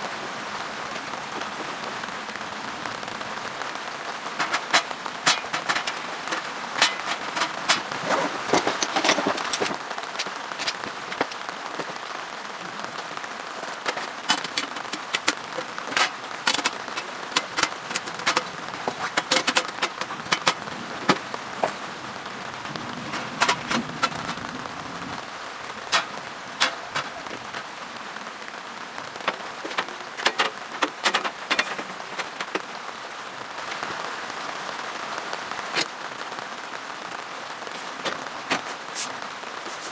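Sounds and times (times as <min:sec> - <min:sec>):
rain drops tapping on fabric: 0:00.0 - 0:39.9
rain hiss: 0:00.0 - 0:39.9.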